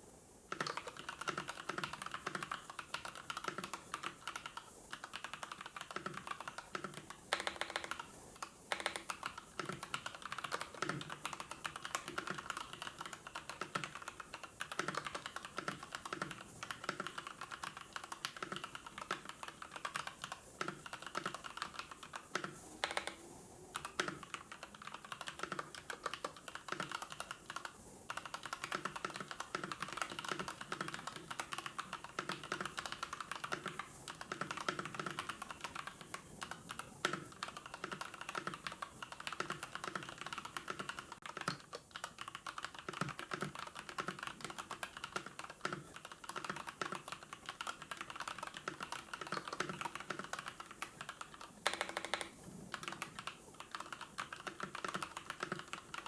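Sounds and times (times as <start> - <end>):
typing on computer keyboard: 0.5 - 56.0.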